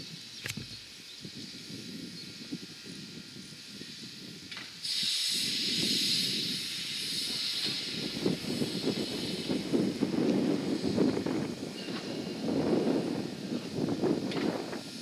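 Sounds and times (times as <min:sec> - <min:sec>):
locomotive steam hissing: 0:00.0 - 0:15.0.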